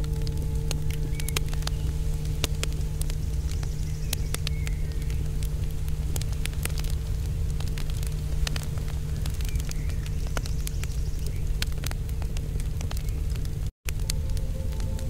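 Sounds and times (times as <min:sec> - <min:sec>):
fire crackling: 0:00.0 - 0:15.0
low rumble of flames: 0:00.0 - 0:15.0.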